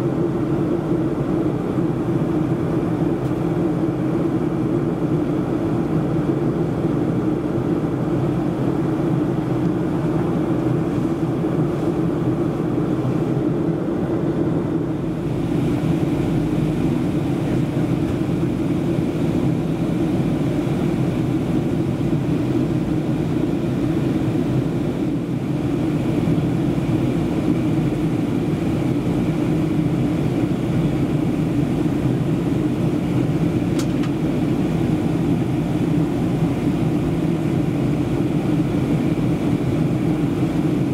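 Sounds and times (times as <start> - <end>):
jet engine drone: 0.0 - 40.9.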